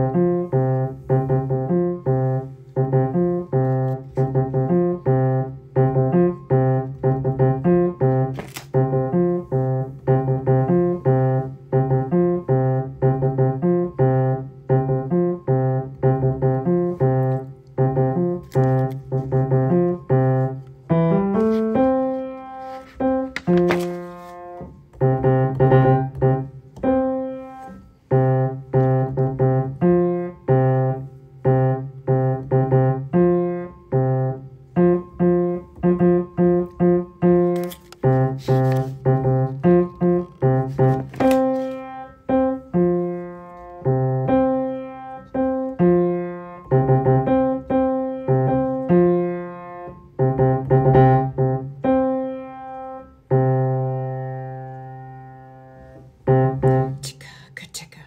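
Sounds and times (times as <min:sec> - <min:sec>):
piano accompaniment: 0:00.0 - 0:57.6.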